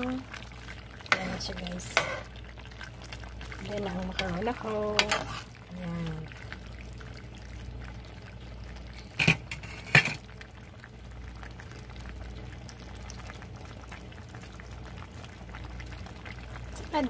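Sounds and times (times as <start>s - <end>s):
food bubbling in a pan: 0.0s - 17.0s.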